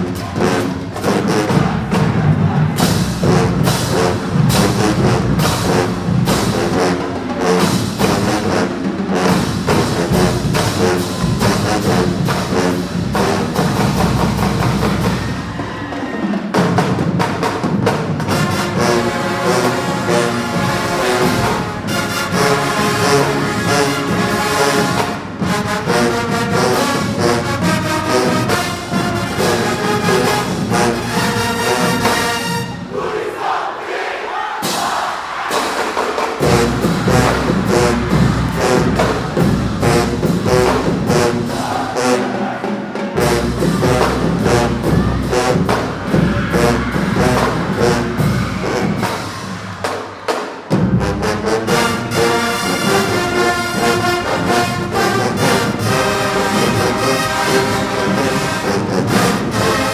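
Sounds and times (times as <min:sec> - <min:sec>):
marching band brass and drums: 0:00.0 - 0:59.9.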